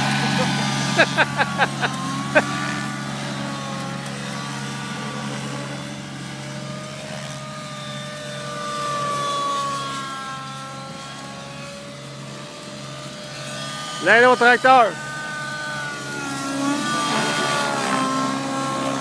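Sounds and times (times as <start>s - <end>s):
model helicopter whine: 0.0s - 19.0s.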